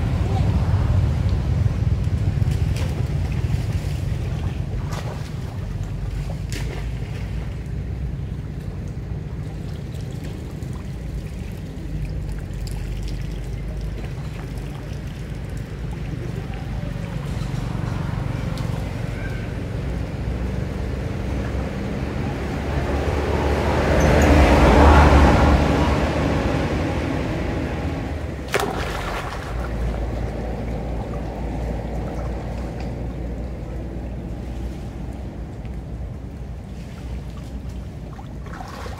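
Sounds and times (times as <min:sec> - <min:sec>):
low rumble: 0:00.0 - 0:38.4
floodwater lapping and sloshing: 0:00.0 - 0:38.9.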